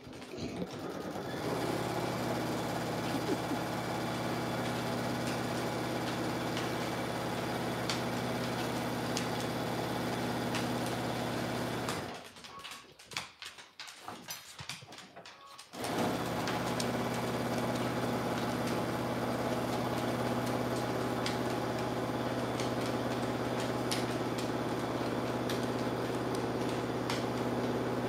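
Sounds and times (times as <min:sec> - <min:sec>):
sewing machine running: 0:00.0 - 0:12.2, 0:15.8 - 0:28.0.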